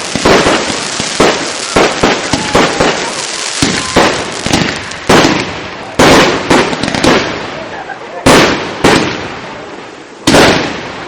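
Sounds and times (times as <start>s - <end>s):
fireworks bangs: 0.0s - 11.0s
fireworks crackle and hiss: 0.0s - 11.0s.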